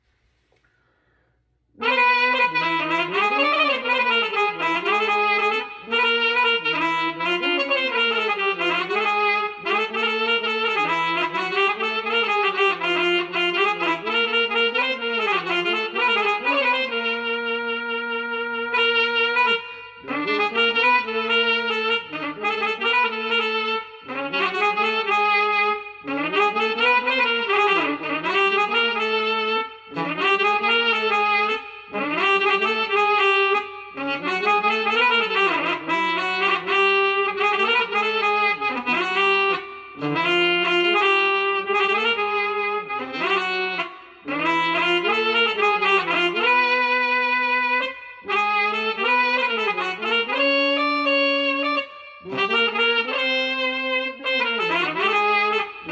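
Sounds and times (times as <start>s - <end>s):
wind instrument solo melody: 1.8s - 55.9s.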